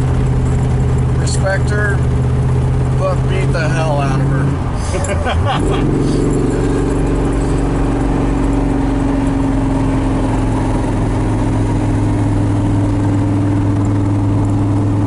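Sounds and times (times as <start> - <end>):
supercharged engine droning: 0.0 - 15.0.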